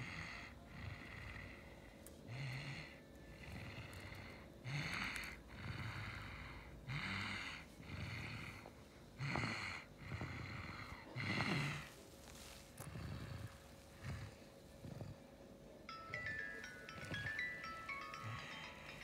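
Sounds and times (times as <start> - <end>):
person breathing: 0.0 - 15.1, 16.0 - 19.0
faint steady hum: 0.0 - 19.0.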